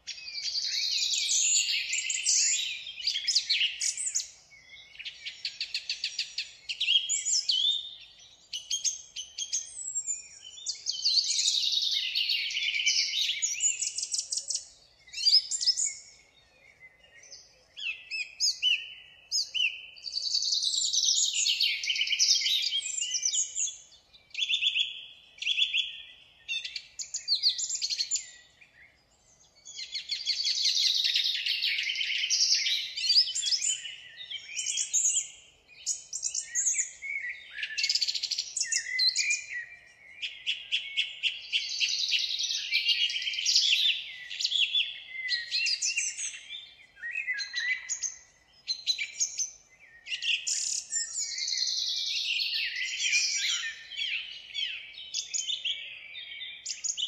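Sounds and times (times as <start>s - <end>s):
small birds chirping and trilling: 0.0s - 57.0s.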